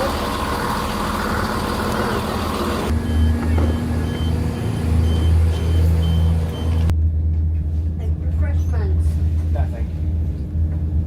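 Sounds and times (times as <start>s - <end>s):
vehicle humming: 0.0s - 9.1s.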